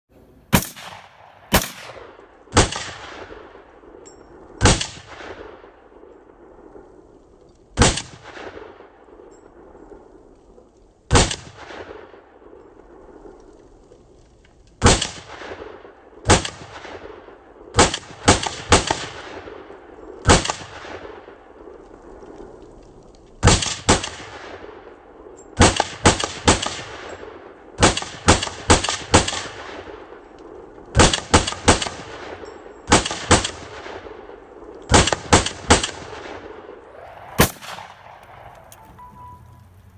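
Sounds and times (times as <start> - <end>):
rifle shots with echo: 0.5 - 6.7, 7.7 - 9.7, 11.1 - 13.3, 14.8 - 21.8, 23.4 - 39.6.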